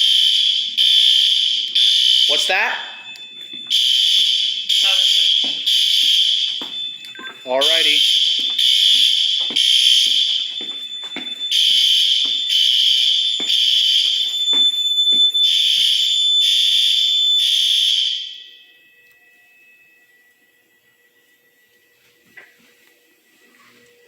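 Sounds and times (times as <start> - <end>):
fire alarm horns pulsing: 0.0 - 24.0.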